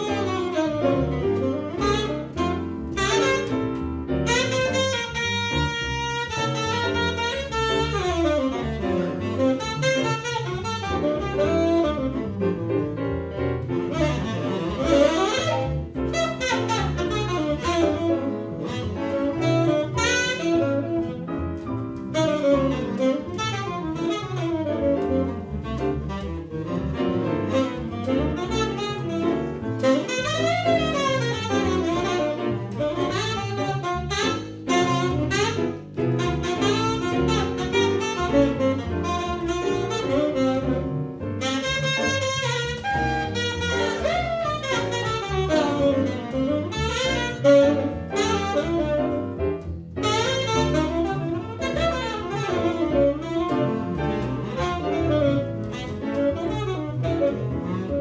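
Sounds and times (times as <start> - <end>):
double bass: 0.0 - 58.0
piano: 0.0 - 58.0
tenor saxophone solo: 0.0 - 58.0.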